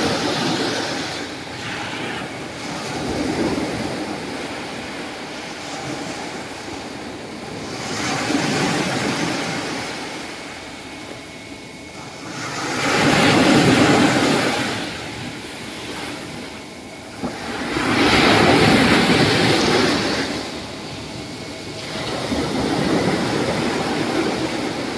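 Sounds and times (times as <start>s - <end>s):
surf washing up a beach: 0.0s - 11.0s, 11.9s - 24.9s.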